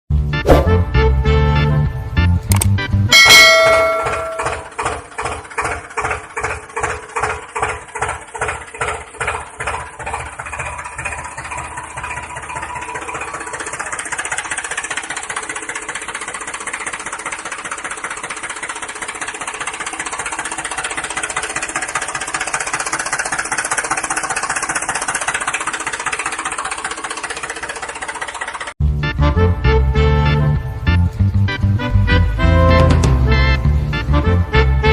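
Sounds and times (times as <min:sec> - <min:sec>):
engine chugging: 0:00.1 - 0:34.9.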